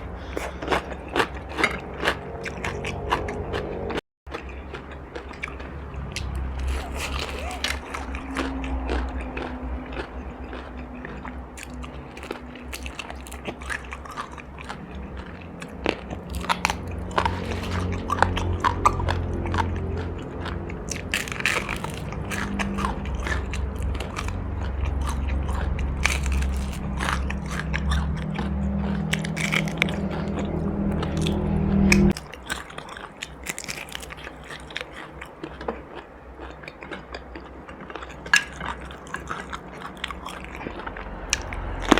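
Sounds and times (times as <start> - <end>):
chewing crunchy food: 0.0 - 41.9
low steady hum: 0.0 - 41.9.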